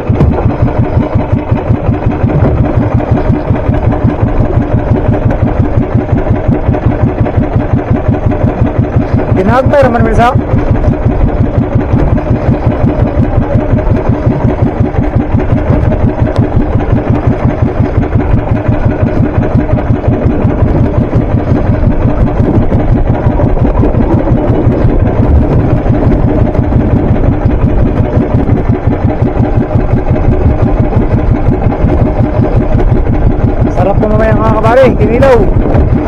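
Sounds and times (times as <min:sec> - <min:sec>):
boat engine chugging: 0:00.0 - 0:36.0.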